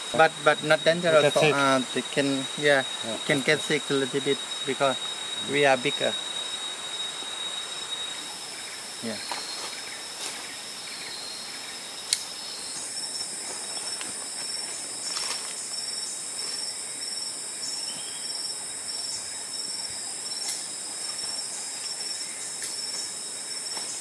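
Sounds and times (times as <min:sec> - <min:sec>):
insect drone: 0:00.0 - 0:24.0
pulsing high insect chirp: 0:00.0 - 0:24.0.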